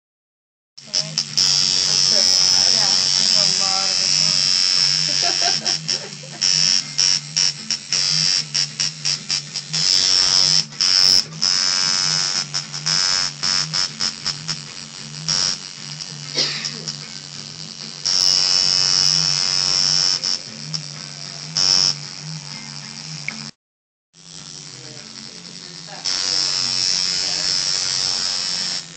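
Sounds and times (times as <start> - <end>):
tattoo machine buzzing: 0.8 - 23.6, 24.2 - 28.9.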